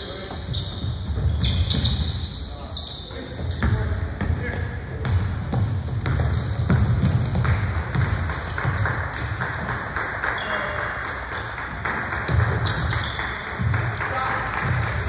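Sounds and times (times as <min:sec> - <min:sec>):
sneakers squeaking: 0:00.0 - 0:15.0
basketball bouncing on court: 0:00.3 - 0:02.4, 0:03.3 - 0:10.5, 0:11.1 - 0:15.0.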